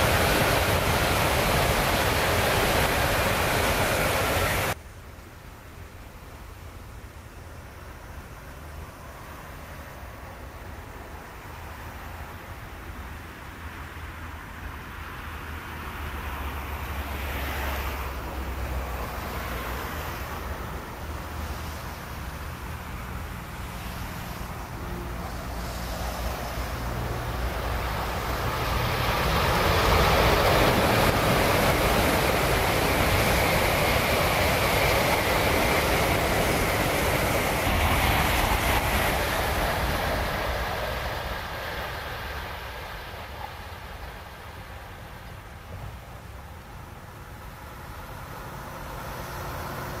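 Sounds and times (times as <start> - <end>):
high-speed train passing: 0.0 - 50.0.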